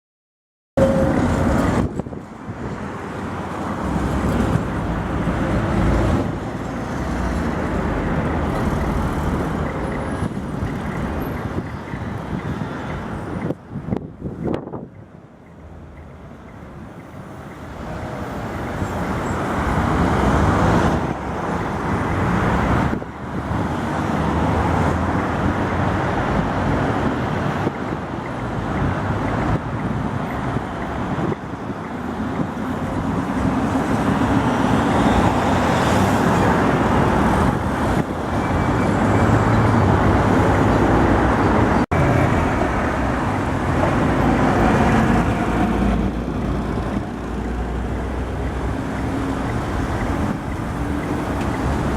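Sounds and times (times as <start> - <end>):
trams and road traffic rumbling: 0.8 - 51.9.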